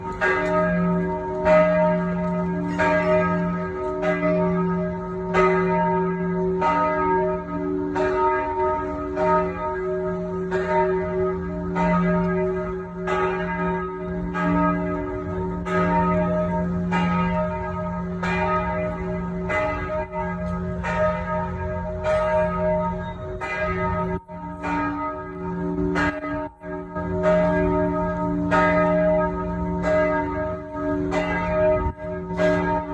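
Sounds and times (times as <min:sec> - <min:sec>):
church bells ringing: 0:00.0 - 0:32.9.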